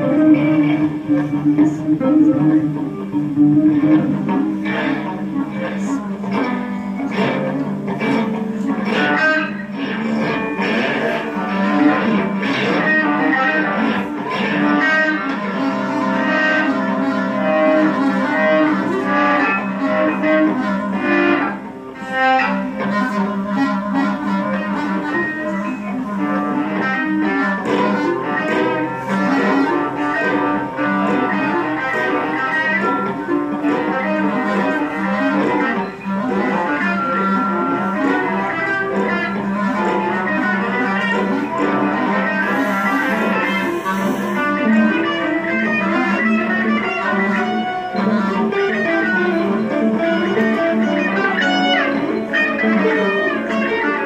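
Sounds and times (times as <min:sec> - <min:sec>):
clarinet long held tones: 0:00.0 - 0:54.0
electric guitars: 0:00.0 - 0:54.0.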